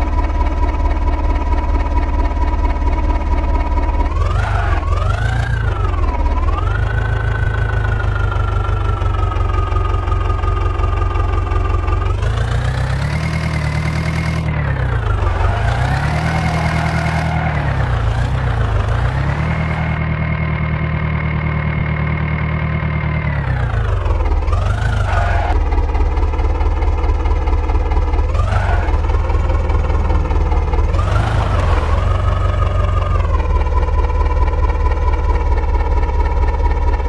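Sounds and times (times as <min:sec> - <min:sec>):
heavy diesel engine revving: 0:00.0 - 0:37.0.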